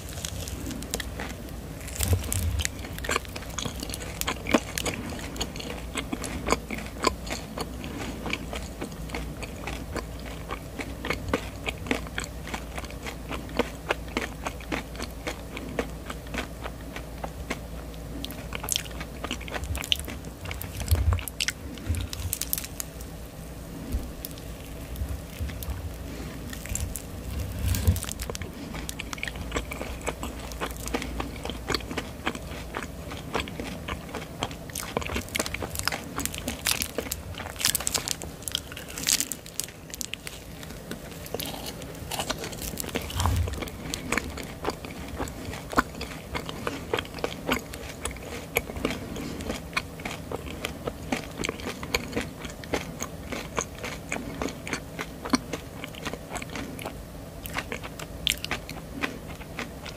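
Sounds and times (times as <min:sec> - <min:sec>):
chewing marshmallow: 0:00.0 - 0:59.9.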